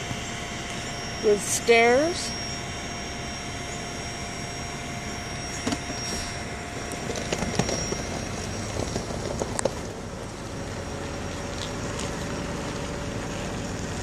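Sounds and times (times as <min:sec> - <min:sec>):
car road noise from inside: 0:00.0 - 0:14.0.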